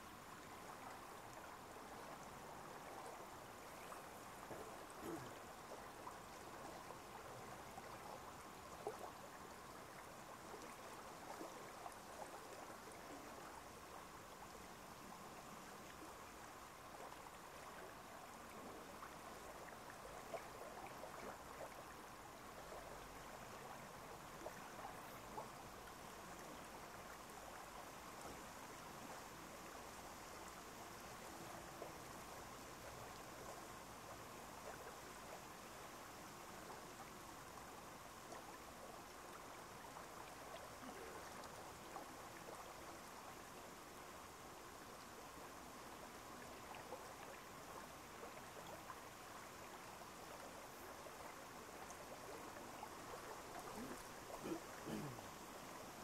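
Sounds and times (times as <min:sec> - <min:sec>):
trickle of running water: 0:00.0 - 0:56.0.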